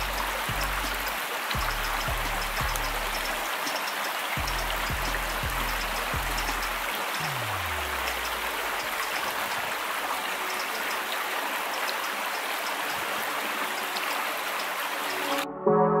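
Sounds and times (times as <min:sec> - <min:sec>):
small stream rushing: 0:00.0 - 0:15.5.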